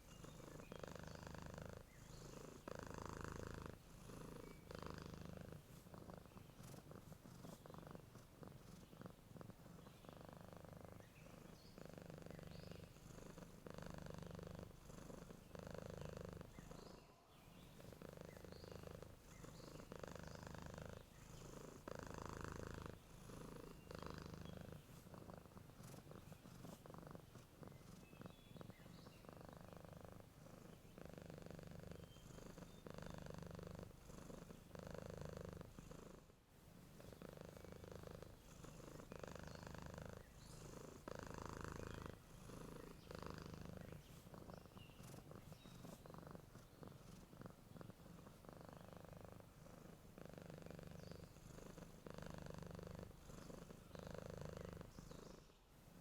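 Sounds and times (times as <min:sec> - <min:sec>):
cat purring softly: 0:00.0 - 0:56.0.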